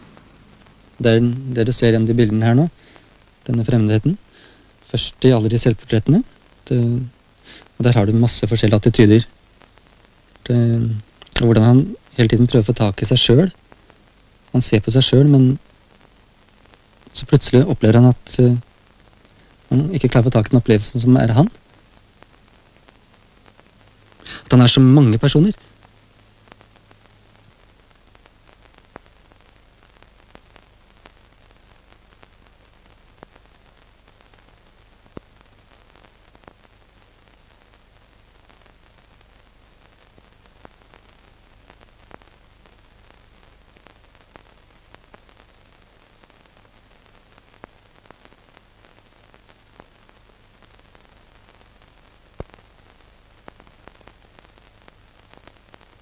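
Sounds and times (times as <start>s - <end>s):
crackles and pops: 0.0s - 56.0s
film soundtrack hiss: 0.0s - 56.0s.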